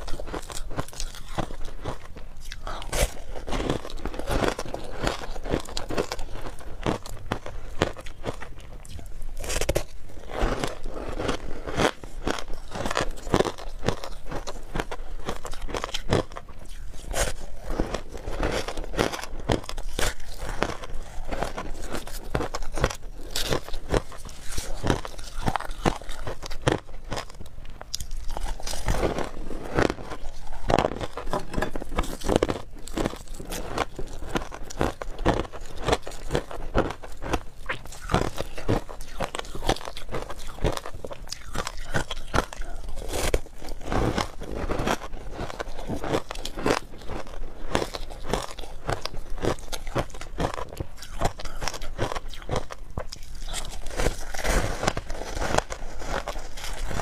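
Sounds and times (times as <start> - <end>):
crunching and chewing ice: 0.0 - 57.0.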